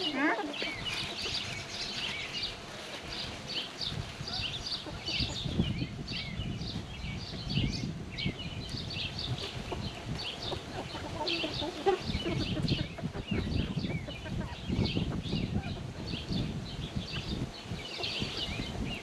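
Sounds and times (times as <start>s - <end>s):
hens clucking: 0.0s - 6.4s, 9.1s - 19.0s
small birds chirping: 0.0s - 19.0s.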